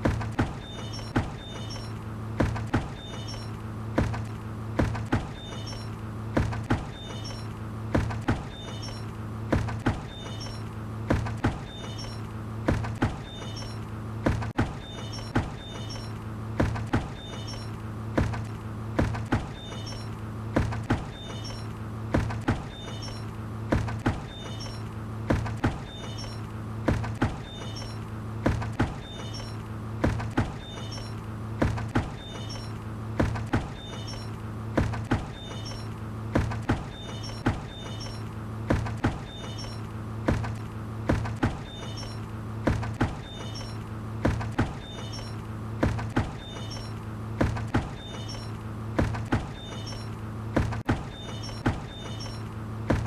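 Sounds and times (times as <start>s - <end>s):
constant low drone: 0.0s - 53.0s.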